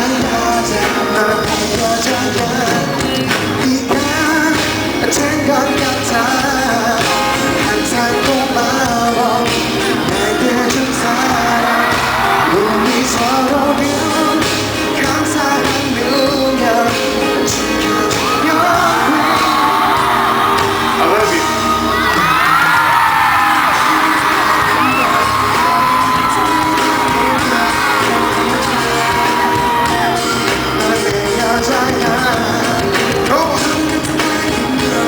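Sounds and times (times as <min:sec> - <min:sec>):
person singing: 0:00.0 - 0:35.0
pop band playing: 0:00.0 - 0:35.0.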